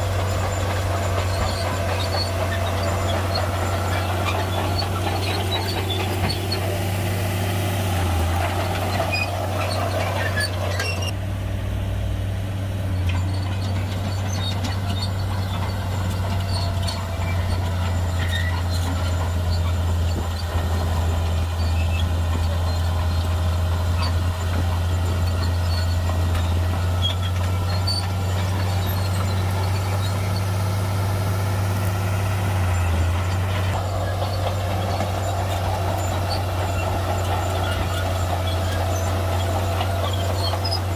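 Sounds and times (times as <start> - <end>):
higher-pitched mechanical noise: 0.0 - 11.2, 12.8 - 40.9
bulldozer diesel engine droning: 0.0 - 40.9.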